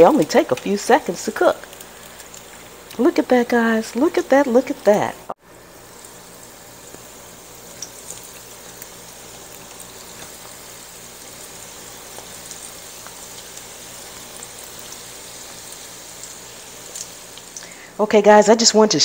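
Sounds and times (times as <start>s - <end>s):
frying oil crackles and pops: 0.0s - 17.9s
hot oil sizzling: 0.0s - 18.8s.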